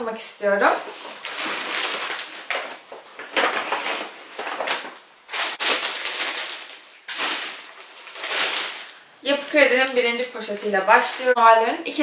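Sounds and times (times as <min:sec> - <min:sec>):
shopping bags rustling: 0:00.4 - 0:11.4.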